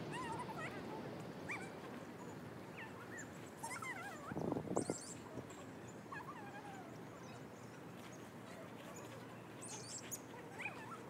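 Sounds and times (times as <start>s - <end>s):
outdoor background hum: 0.0s - 11.0s
small birds whistling and trilling: 1.5s - 11.0s.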